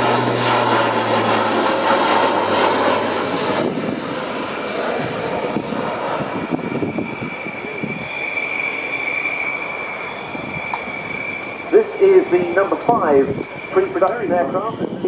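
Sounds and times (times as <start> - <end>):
low hum: 0.0 - 15.0
turboprop engines droning: 0.0 - 15.0.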